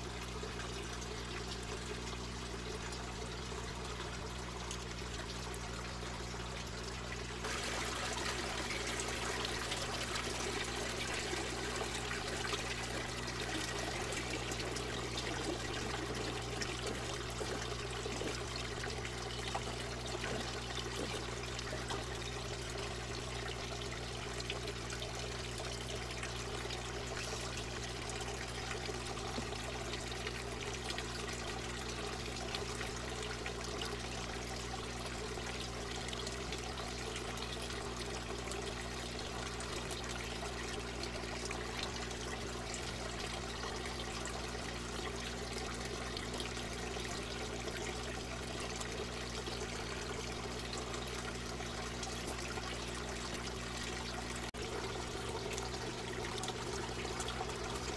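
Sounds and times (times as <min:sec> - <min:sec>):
low hum: 0:00.0 - 0:57.9
water trickling: 0:00.0 - 0:57.9.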